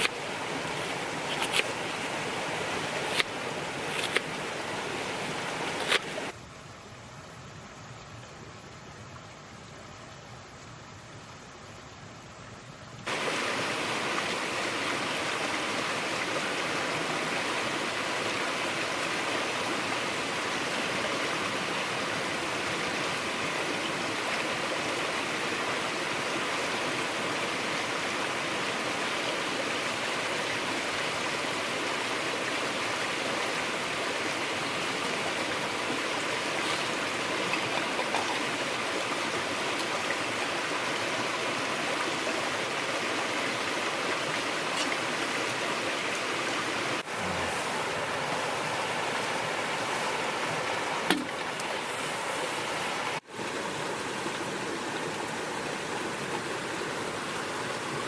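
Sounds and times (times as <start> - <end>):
flowing stream rushing: 0.0 - 6.8, 7.4 - 58.0.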